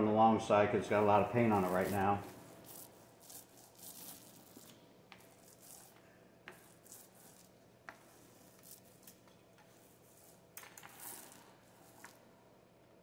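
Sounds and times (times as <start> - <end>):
paint roller hissing on wood: 0.9 - 12.4.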